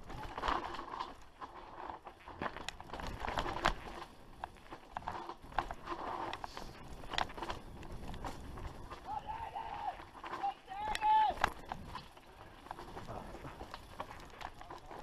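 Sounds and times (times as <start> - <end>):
bike clicks and rattles: 0.0 - 15.0
tyres crunching over stones: 0.0 - 15.0.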